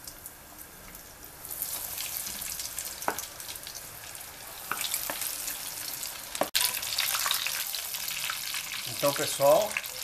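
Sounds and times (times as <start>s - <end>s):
food deep-frying in oil: 0.0s - 10.0s.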